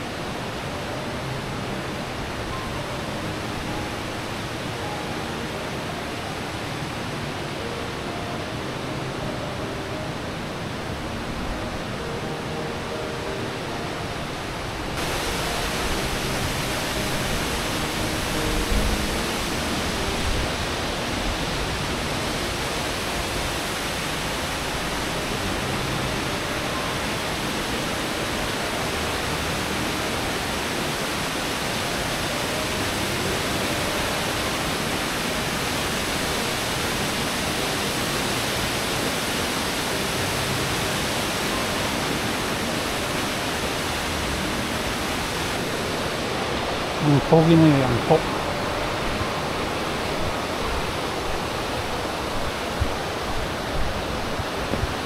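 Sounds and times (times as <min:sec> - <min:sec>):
mountain stream rushing: 0:00.0 - 0:55.0.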